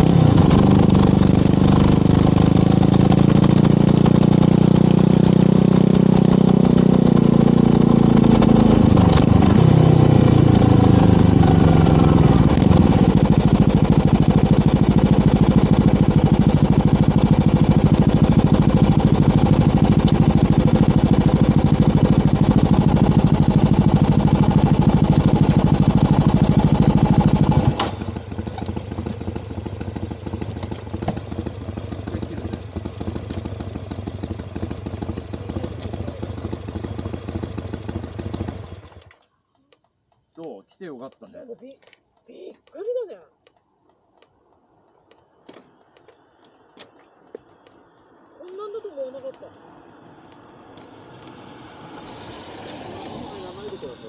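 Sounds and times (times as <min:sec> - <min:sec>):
motorcycle engine idling: 0:00.0 - 0:40.3, 0:44.1 - 0:51.6.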